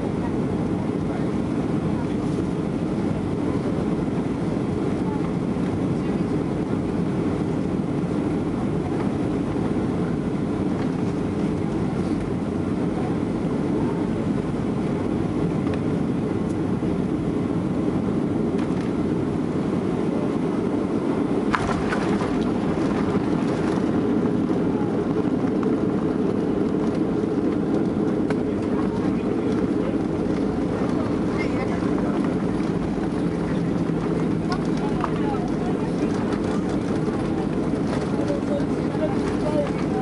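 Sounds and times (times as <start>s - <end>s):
airplane cabin engine rush: 0.0s - 40.0s.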